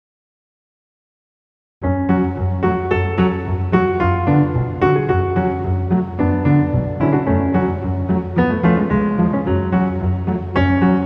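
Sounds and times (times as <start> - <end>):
piano notes: 1.8 - 11.0
steady low bass: 1.9 - 11.0.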